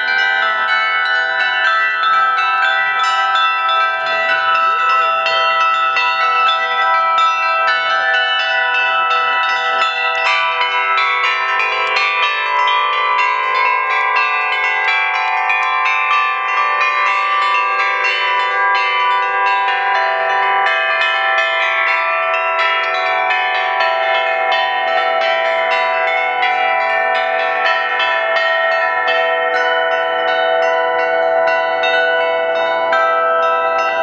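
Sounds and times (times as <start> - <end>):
lower bell ringing: 0.0 - 34.0
small tuned bells ringing: 0.0 - 34.0.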